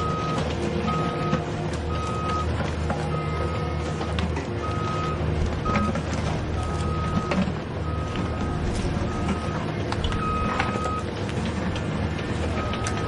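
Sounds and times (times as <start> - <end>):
warning alarm beeping: 0.0 - 11.1, 12.6 - 13.0
heavy diesel engine running: 0.0 - 13.0.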